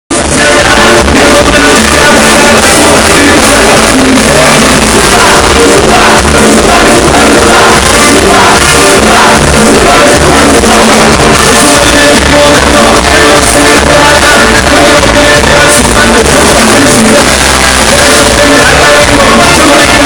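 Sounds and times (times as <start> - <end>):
live band playing: 0.1 - 20.0
man singing into microphone: 0.1 - 20.0.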